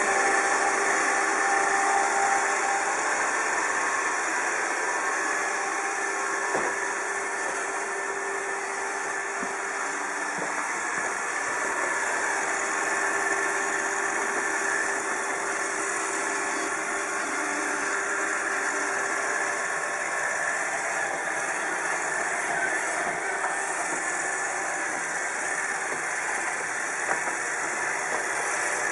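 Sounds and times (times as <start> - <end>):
robot vacuum motor hum: 0.0 - 28.9.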